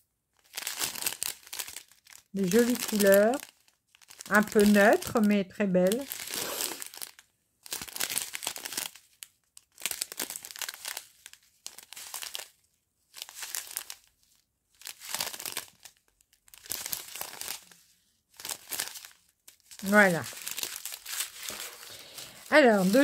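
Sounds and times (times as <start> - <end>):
plastic bags crinkling: 0.4 - 23.0.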